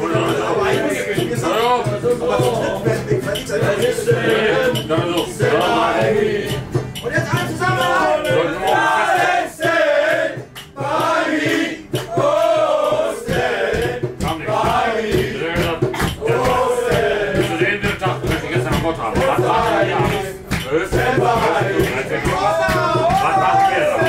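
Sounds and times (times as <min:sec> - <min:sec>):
man singing over a beat: 0:00.0 - 0:09.9, 0:11.8 - 0:24.0.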